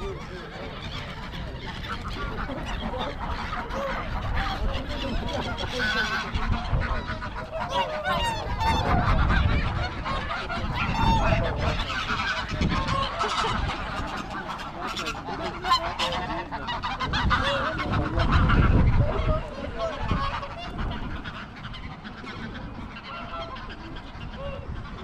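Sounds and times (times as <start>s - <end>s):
geese honking: 0.0s - 25.0s
wind rumbling on microphone: 0.0s - 25.0s.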